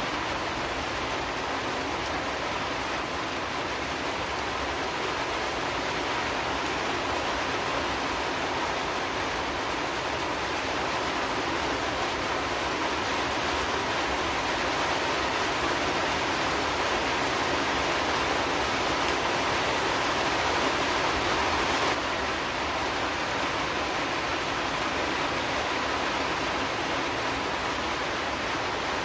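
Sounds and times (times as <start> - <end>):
steady rain patter: 0.0 - 29.0.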